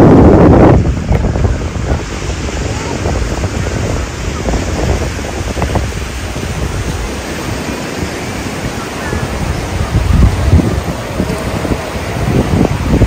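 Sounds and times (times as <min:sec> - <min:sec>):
surf washing: 0:00.0 - 0:13.0
wind noise on microphone: 0:00.0 - 0:13.0.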